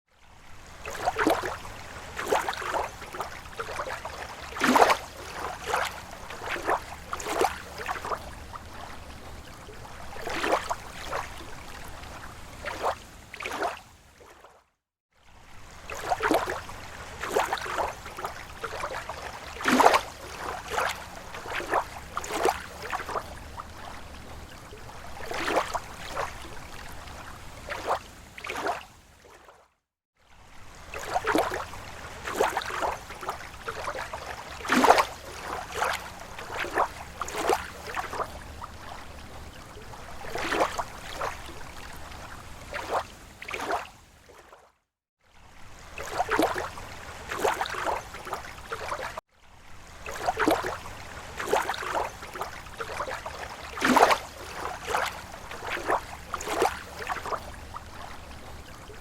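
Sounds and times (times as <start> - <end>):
small waves lapping on shore: 0.1 - 59.0.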